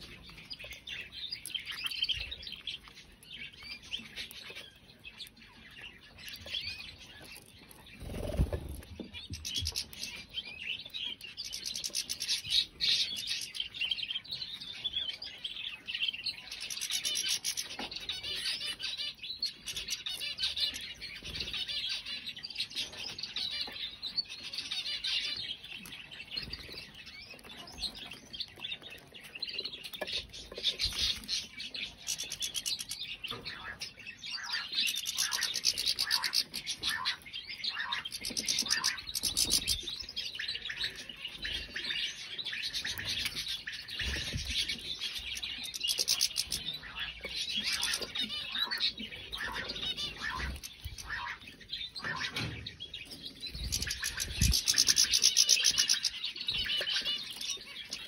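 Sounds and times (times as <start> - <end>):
canaries singing and chirping: 0.0 - 58.0.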